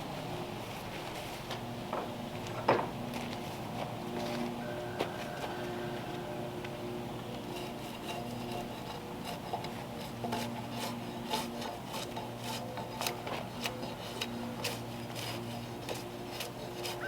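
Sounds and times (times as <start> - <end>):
woodworking clicks and scraping: 1.0 - 17.0.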